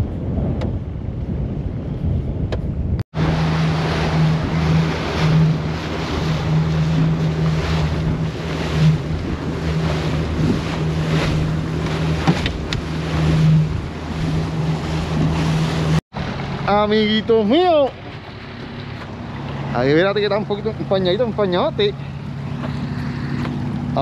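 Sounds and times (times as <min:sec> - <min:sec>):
wind buffeting microphone: 0:00.0 - 0:24.0
boat motor droning: 0:02.5 - 0:24.0
water rushing past: 0:03.1 - 0:24.0.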